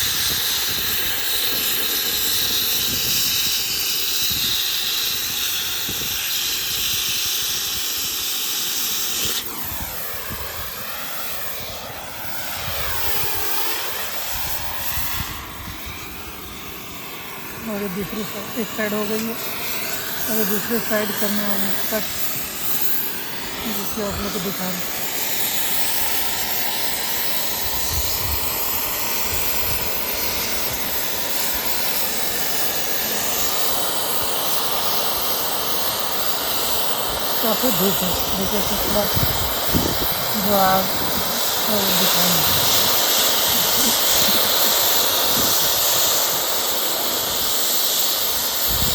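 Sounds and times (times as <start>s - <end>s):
gas cutting torch hissing: 0.0s - 48.9s.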